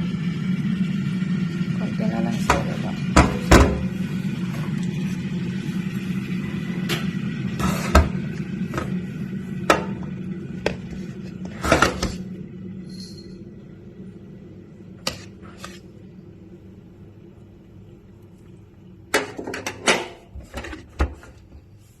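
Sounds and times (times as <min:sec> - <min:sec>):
low hum: 0:00.0 - 0:19.4.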